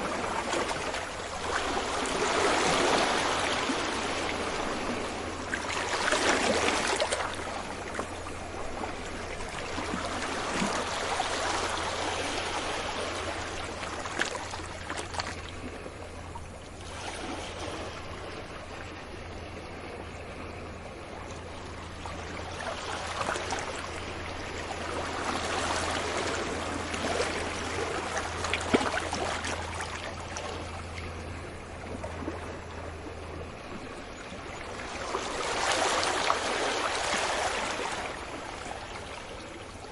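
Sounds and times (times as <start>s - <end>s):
ocean waves on shore: 0.0s - 39.9s
steady low hum: 0.0s - 39.9s.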